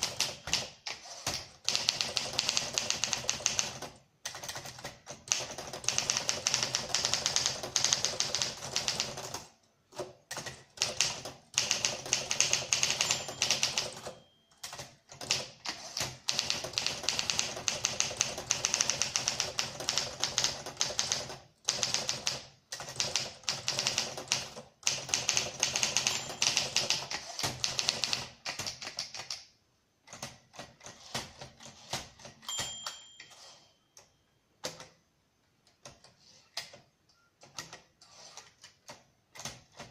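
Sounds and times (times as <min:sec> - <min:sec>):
typewriter keystroke clacks: 0:00.0 - 0:29.5, 0:37.4 - 0:39.9.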